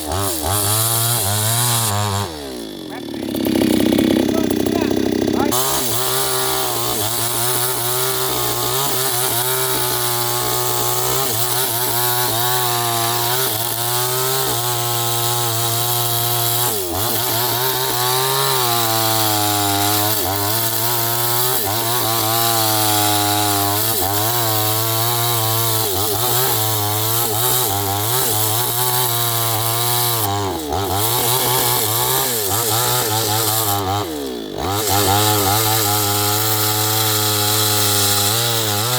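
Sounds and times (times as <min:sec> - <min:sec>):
chainsaw cutting into wood: 0:00.0 - 0:38.9.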